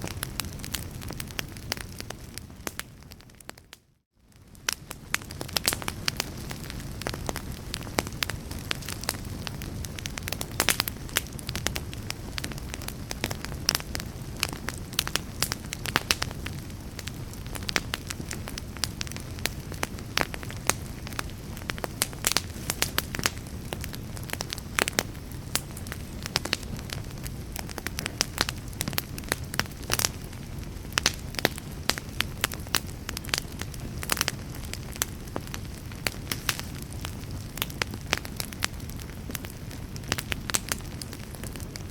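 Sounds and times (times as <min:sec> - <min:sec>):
low rumble of wind: 0:00.0 - 0:03.7, 0:04.3 - 0:41.9
wood fire crackling and popping: 0:00.0 - 0:41.9.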